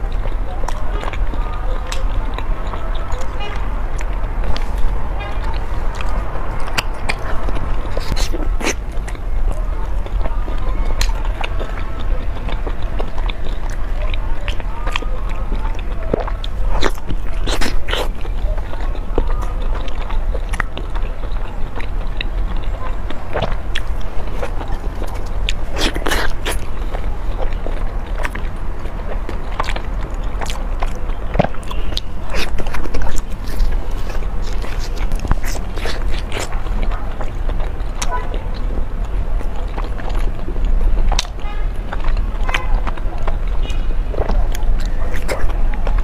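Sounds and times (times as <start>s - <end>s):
mouth clicks and smacks: 0.0s - 46.0s
person chewing: 0.0s - 46.0s
steady low hum: 0.0s - 46.0s.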